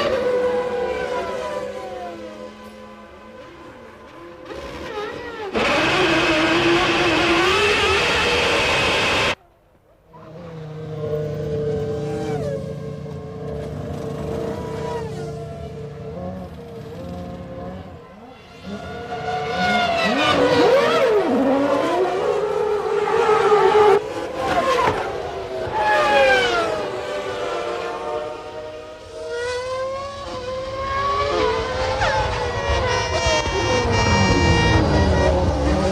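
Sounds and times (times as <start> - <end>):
racing car engines at speed: 0.0 - 9.4, 10.1 - 35.9
racing cars passing by: 0.0 - 9.4, 10.1 - 35.9.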